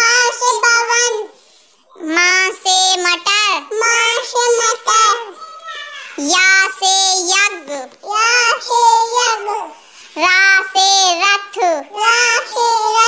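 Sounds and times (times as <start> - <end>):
child singing: 0.0 - 1.4, 2.0 - 13.0.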